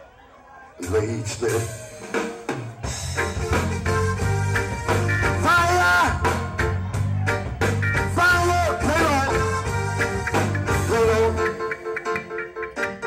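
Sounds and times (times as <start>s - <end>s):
live reggae band: 0.0s - 13.0s.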